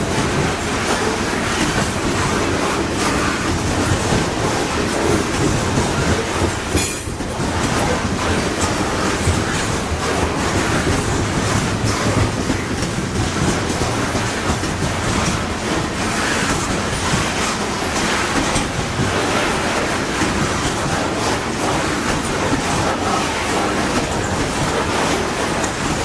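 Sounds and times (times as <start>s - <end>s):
steel wheels clattering on rail joints: 0.0s - 26.0s.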